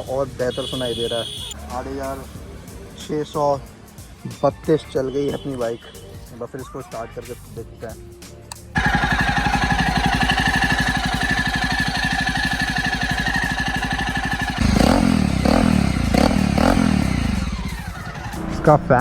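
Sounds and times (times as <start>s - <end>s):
motorcycle engine idling and revving: 0.0s - 6.3s, 8.6s - 19.0s.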